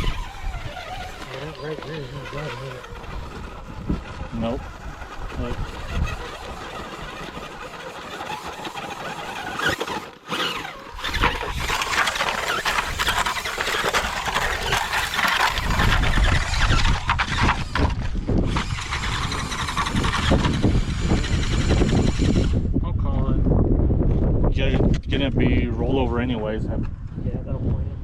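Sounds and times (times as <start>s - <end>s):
wind buffeting microphone: 0.0s - 8.5s, 10.4s - 28.0s
engine revving: 0.0s - 22.6s
tires squealing on rock: 0.0s - 22.6s.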